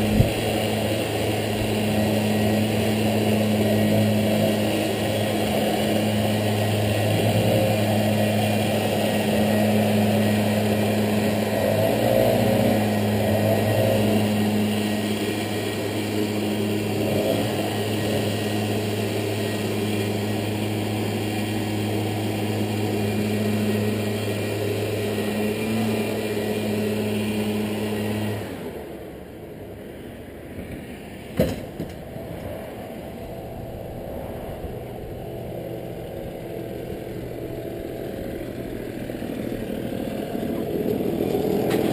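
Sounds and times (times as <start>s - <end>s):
leaf blower engine running: 0.0s - 30.0s, 31.1s - 41.9s.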